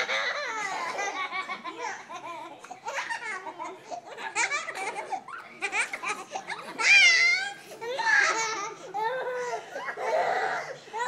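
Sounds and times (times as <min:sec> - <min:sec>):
toddlers laughing: 0:00.0 - 0:11.0.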